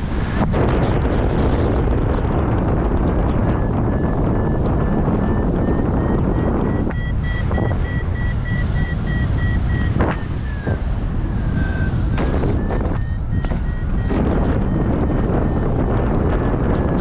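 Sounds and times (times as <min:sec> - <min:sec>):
wind buffeting microphone: 0:00.0 - 0:17.0
variometer beeping: 0:02.2 - 0:17.0.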